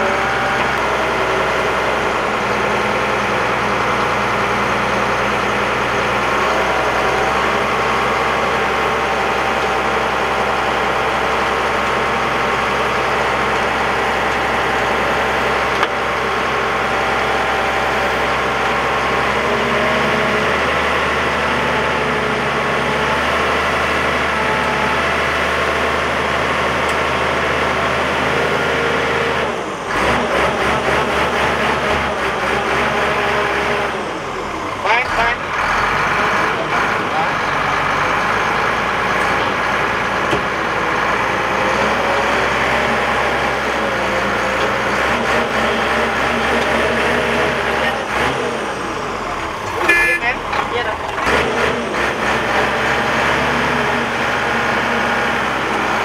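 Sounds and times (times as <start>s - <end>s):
heavy diesel engines idling: 0.0s - 56.0s.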